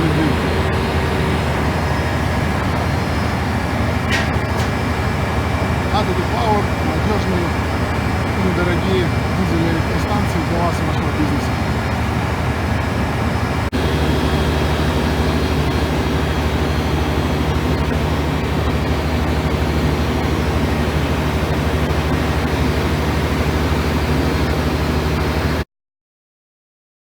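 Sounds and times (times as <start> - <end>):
diesel generator engine running: 0.0 - 25.6.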